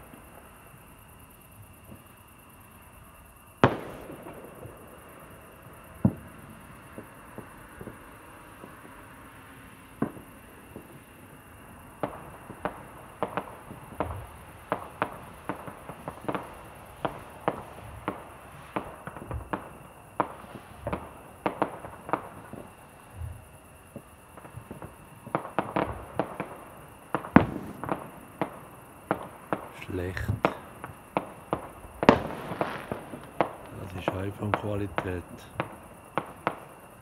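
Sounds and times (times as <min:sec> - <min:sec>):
distant fireworks bangs: 0:00.0 - 0:37.0.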